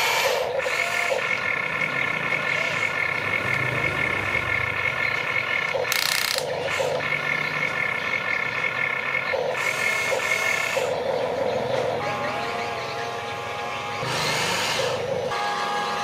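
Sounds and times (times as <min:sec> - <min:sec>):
electric gear motors whining: 0:00.0 - 0:16.0.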